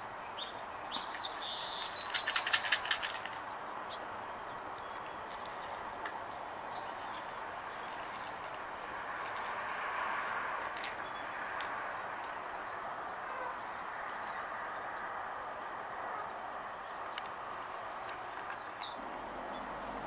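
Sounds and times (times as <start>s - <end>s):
outdoor background hum: 0.0s - 20.0s
small songbirds chirping: 0.0s - 20.0s.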